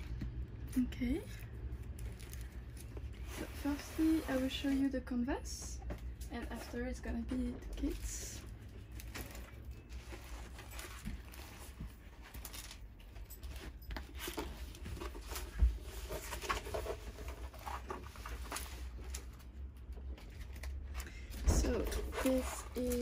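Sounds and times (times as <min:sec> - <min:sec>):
canvas and plastic film rustling: 0:00.8 - 0:05.1, 0:06.4 - 0:23.0.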